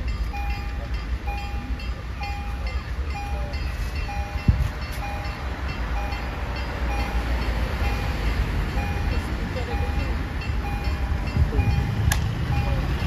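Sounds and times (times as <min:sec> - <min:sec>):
level crossing warning bells: 0:00.0 - 0:13.0
low rumble of traffic: 0:00.0 - 0:13.0.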